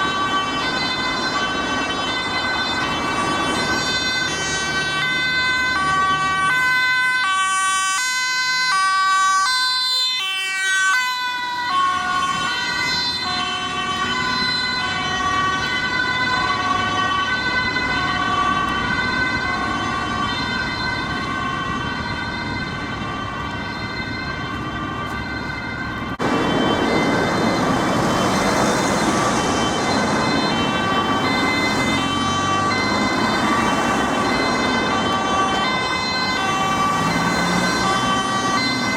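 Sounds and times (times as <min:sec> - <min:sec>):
road and engine noise: 0:00.0 - 0:38.9
two-tone siren: 0:00.0 - 0:38.9.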